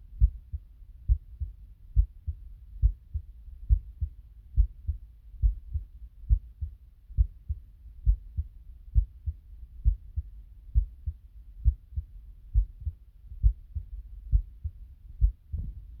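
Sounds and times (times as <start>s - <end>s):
human heartbeat: 0.1s - 16.0s.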